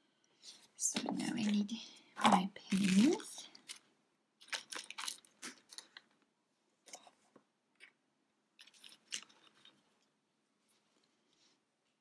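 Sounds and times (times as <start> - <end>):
hands rustling yarn toy: 0.3 - 8.0, 8.6 - 12.0.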